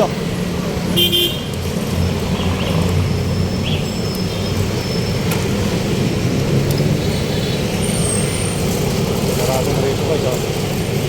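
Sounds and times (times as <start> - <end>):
heavy road traffic: 0.0 - 11.0.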